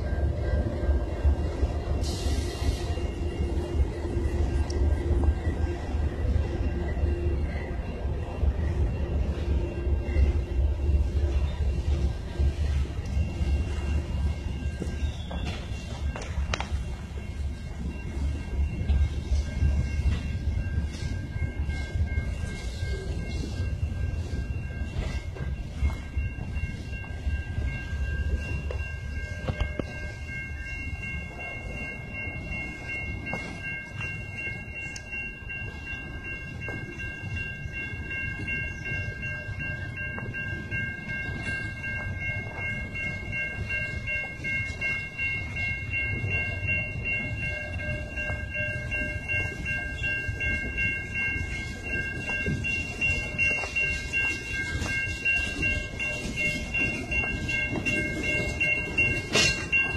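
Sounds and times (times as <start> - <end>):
freight train rumbling by: 0.0 - 59.9
high-pitched ringing tone: 0.0 - 59.9.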